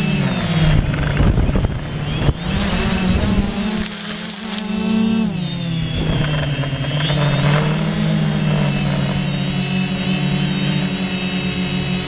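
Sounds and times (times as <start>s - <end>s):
drone propellers humming: 0.0s - 12.0s
thin high whine: 0.0s - 12.0s.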